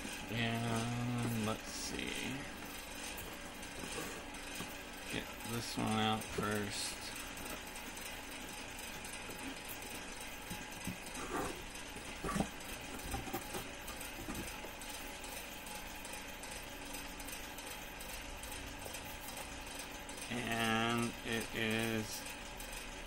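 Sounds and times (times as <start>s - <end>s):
electric fan whirring: 0.0s - 23.0s.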